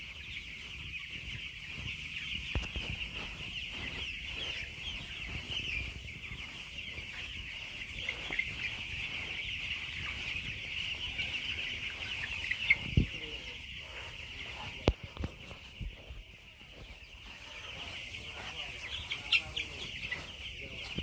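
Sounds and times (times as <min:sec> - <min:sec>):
chickens cheeping and clucking: 0:00.0 - 0:21.0.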